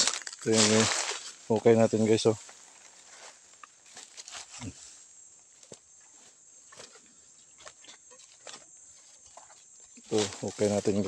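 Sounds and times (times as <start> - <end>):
footsteps through grass and leaves: 0.0 - 11.0.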